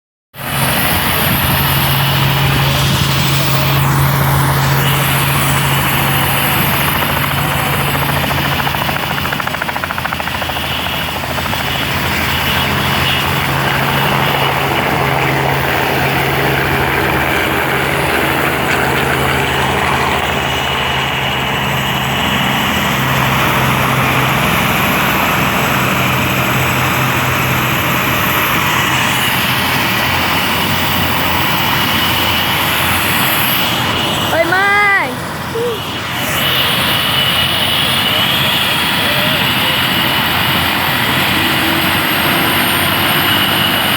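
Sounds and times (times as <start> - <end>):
helicopter turbine and rotor: 0.4 - 43.9.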